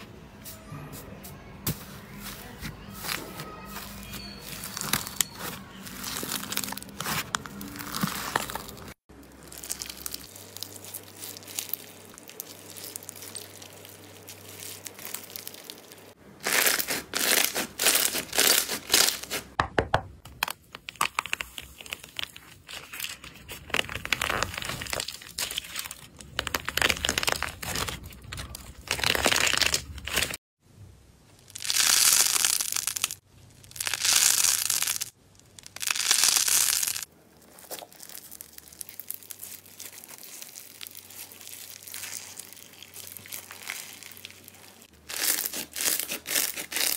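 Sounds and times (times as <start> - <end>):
squishing of bead-filled slime: 1.4 - 19.6, 20.4 - 30.4, 31.4 - 46.9
dry slime crust crackling: 2.1 - 19.6, 20.4 - 30.4, 31.4 - 46.9
slime crinkling: 2.2 - 19.6, 20.4 - 30.4, 31.4 - 46.9.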